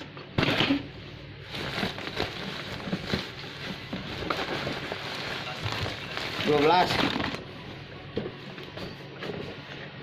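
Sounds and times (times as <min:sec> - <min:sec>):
plastic packaging rustling: 0:00.4 - 0:09.8.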